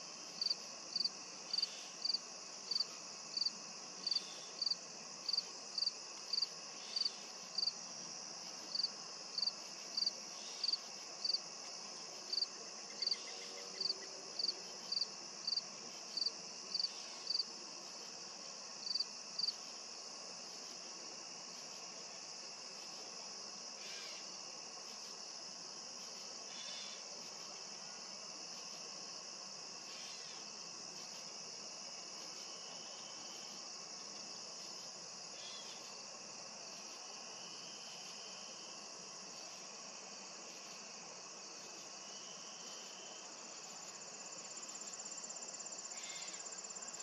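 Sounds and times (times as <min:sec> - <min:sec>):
chorus of insects: 0:00.0 - 0:47.0
cricket chirping: 0:00.0 - 0:47.0.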